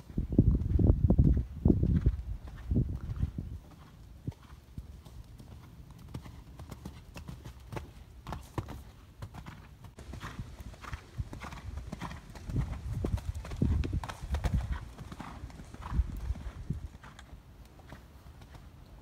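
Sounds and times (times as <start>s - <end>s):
horse hooves cantering on sand: 0.5s - 18.7s.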